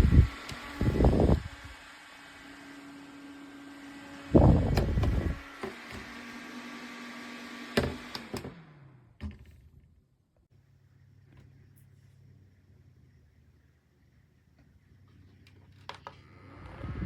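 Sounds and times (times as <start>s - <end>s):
desk fan humming: 0.0s - 9.4s, 10.5s - 17.0s.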